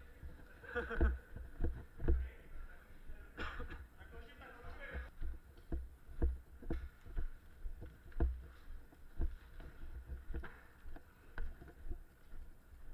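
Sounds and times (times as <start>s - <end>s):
footstep thuds: 0.1s - 2.4s, 4.7s - 12.9s.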